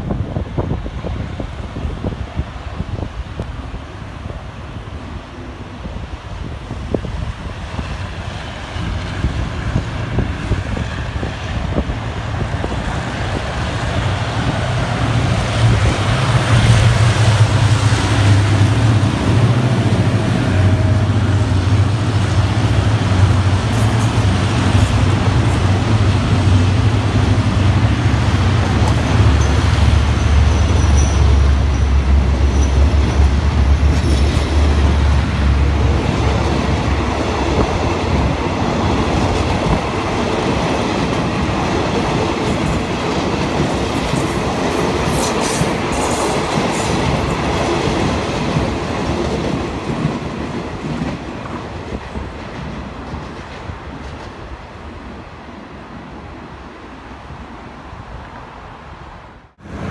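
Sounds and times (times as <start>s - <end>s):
train carriages rolling on rails: 0.0s - 55.2s.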